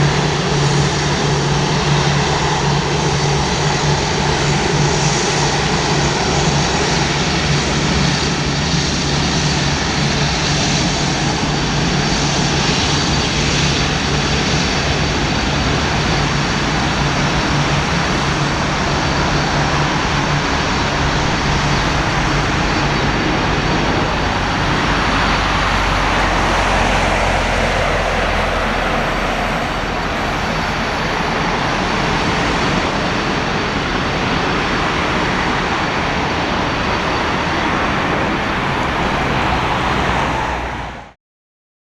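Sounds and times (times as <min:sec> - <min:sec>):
jet engines rushing: 0:00.0 - 0:41.2.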